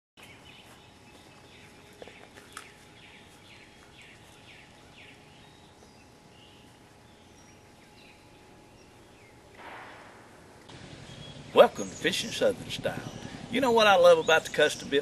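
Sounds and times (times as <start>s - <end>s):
bird singing: 0.2s - 15.0s
outdoor background hiss: 0.2s - 15.0s.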